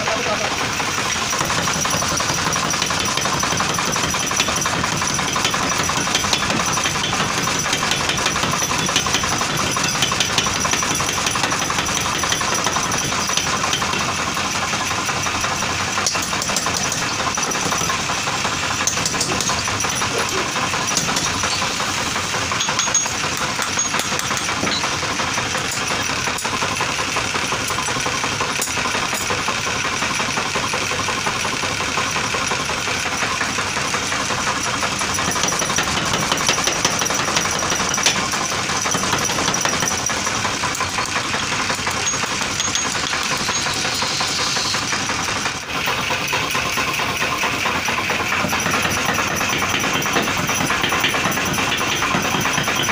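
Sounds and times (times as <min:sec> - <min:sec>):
power hammer striking iron: 0:00.6 - 0:52.9.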